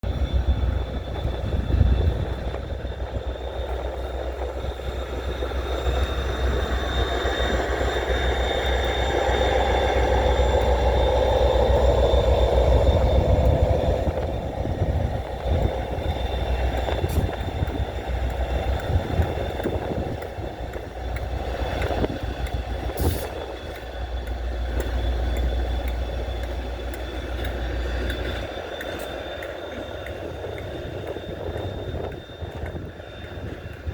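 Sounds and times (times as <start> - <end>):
diesel locomotives rumbling past: 0.0 - 33.9.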